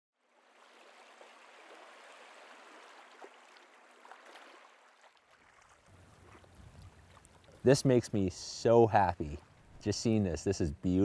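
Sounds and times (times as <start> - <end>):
shallow water trickling and lapping: 0.2 - 10.9.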